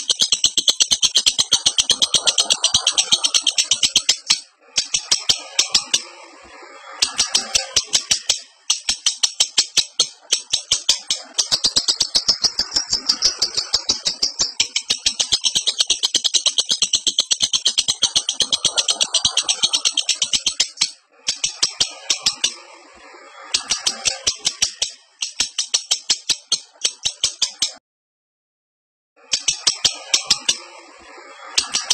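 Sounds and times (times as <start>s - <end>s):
bird rattling chatter: 0.0s - 6.1s, 7.0s - 22.6s, 23.6s - 27.8s.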